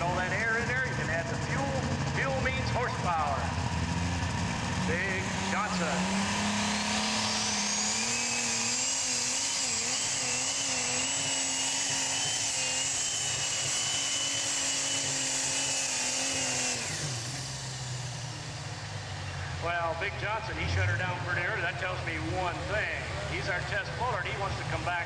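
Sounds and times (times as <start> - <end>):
diesel tractor engine at full power: 0.0 - 25.0
high turbocharger whine: 0.0 - 25.0.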